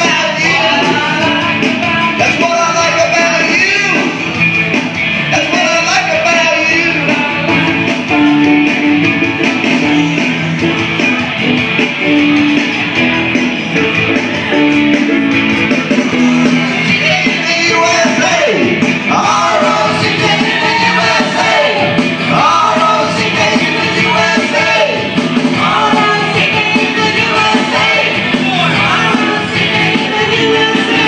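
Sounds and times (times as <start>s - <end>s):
person singing: 0.0s - 4.2s, 5.2s - 14.9s, 15.9s - 31.0s
guitar: 0.0s - 31.0s
rock and roll music: 0.0s - 31.0s.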